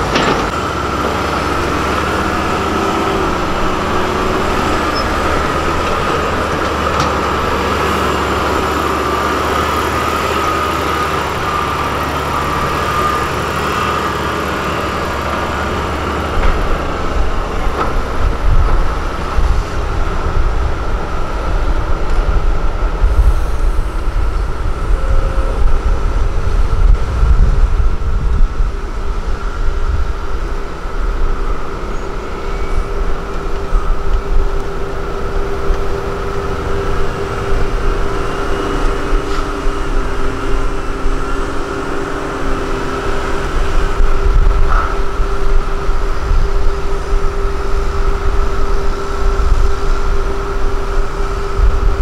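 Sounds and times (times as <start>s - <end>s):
dump truck diesel engines: 0.0s - 52.0s
heavy uneven low rumble: 0.0s - 52.0s.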